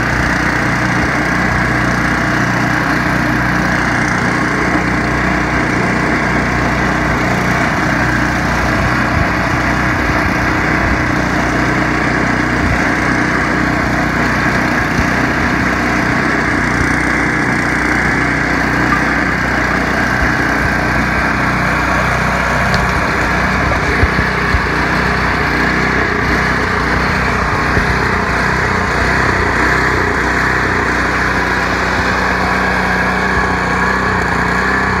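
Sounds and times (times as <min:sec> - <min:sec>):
snowblower running: 0:00.0 - 0:35.0.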